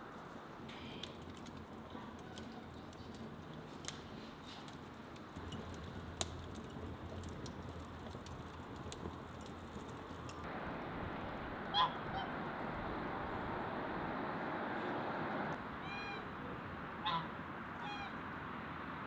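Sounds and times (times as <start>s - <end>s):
wood fire crackling: 0.0s - 15.6s.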